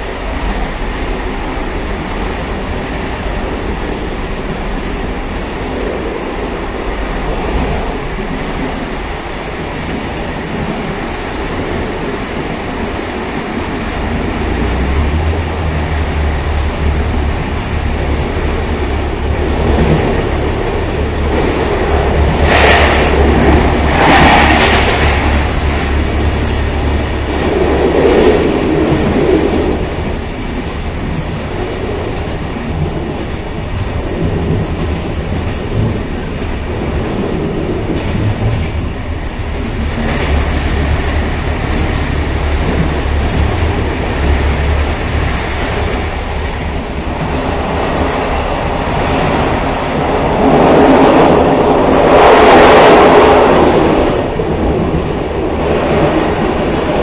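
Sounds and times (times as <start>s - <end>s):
railcar rumbling on track: 0.0s - 57.0s.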